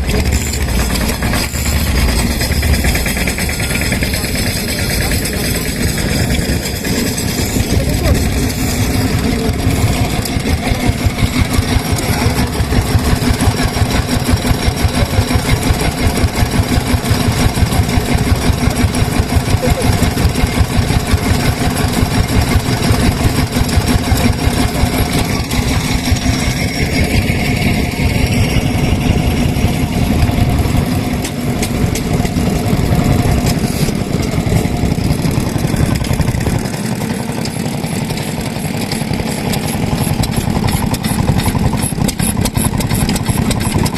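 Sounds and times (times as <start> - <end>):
stationary engines chugging: 0.0 - 43.9.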